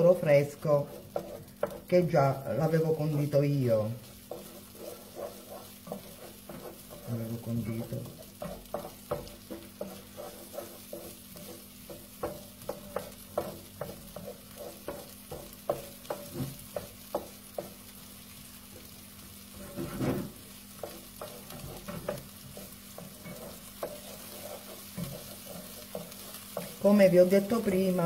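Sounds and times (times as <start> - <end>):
spoon scraping a frying pan: 0.0 - 3.4, 4.0 - 17.9, 19.4 - 27.8
faint sizzle: 0.0 - 28.0.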